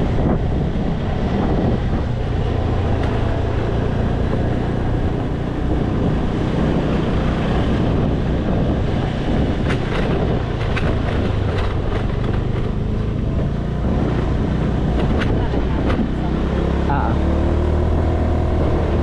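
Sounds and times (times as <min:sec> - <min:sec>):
motorcycle engine hum: 0:00.0 - 0:19.0
wind buffeting microphone: 0:00.0 - 0:19.0.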